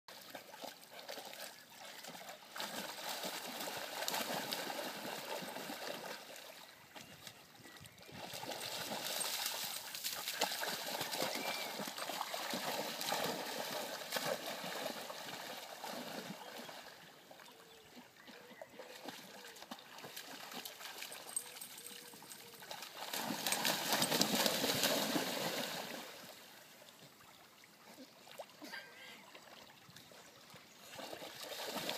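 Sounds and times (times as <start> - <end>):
water splashing and sloshing: 0.1 - 31.9.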